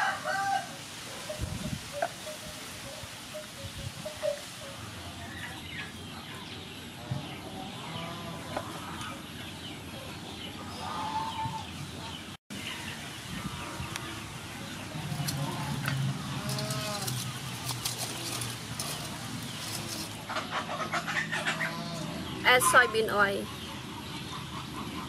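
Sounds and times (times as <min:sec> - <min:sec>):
chickens clucking: 0:01.1 - 0:25.0
birds calling: 0:01.2 - 0:25.0.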